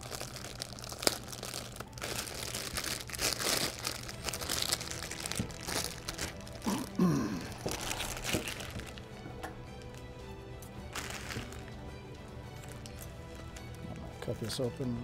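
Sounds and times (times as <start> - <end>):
plastic bag crinkling: 0.0 - 10.1, 10.9 - 14.3
sharp plastic crackle: 0.0 - 11.9, 12.5 - 14.5.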